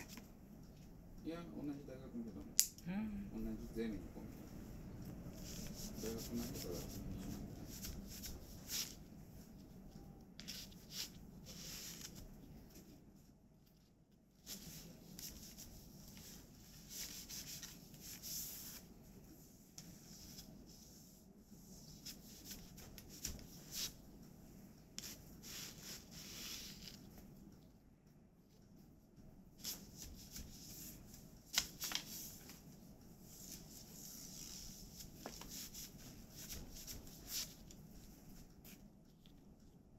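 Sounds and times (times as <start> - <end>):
soft rustling: 4.2 - 27.4, 29.6 - 39.9.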